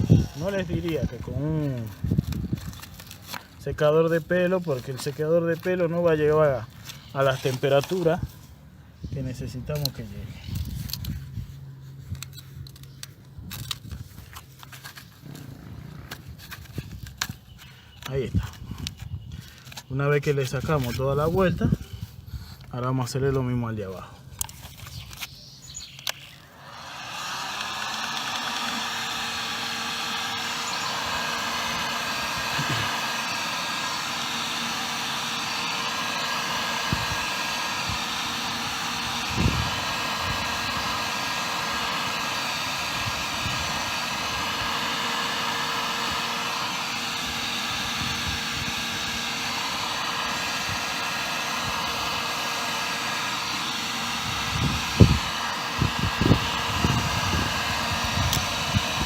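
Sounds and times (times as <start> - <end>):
heat gun fan blowing: 0.0 - 59.0.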